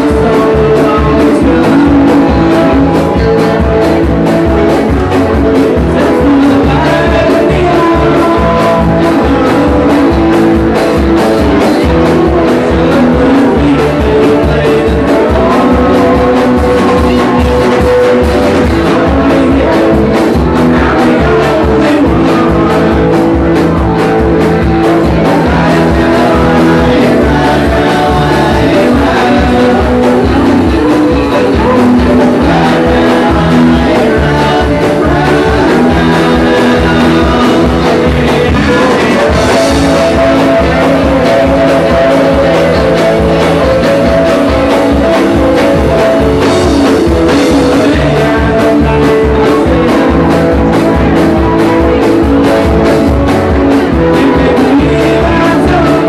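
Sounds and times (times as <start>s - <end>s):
drum kit beat: 0.0s - 56.0s
electric guitars: 0.0s - 56.0s.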